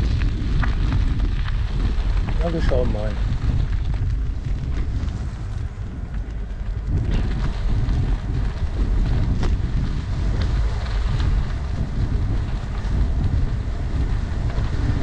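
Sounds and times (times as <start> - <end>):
bicycle tyre noise: 0.0 - 15.0
wind buffeting microphone: 0.0 - 15.0.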